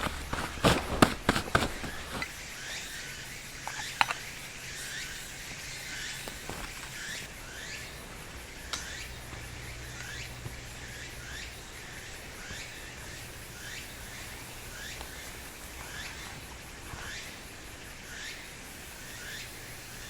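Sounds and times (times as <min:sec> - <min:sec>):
outdoor ambient hiss: 0:00.0 - 0:20.0.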